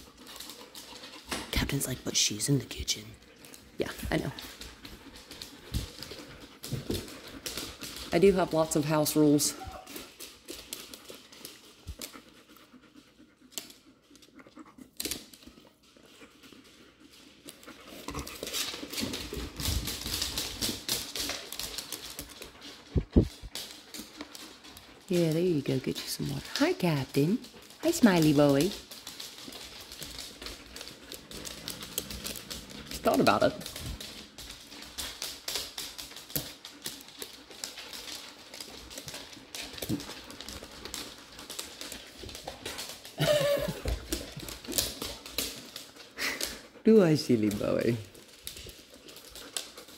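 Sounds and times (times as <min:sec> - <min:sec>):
dog claws clicking on hard floor: 0:00.0 - 0:49.9.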